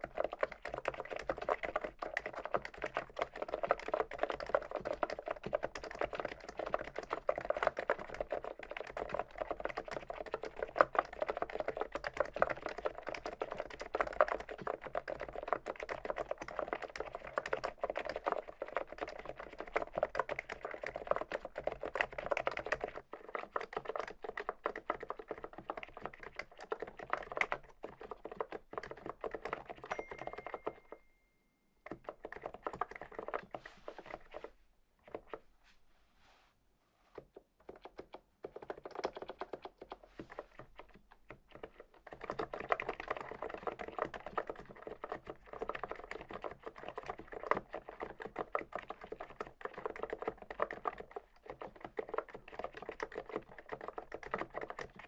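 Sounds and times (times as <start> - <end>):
keyboard typing clacks: 0.0 - 34.4, 37.6 - 55.0.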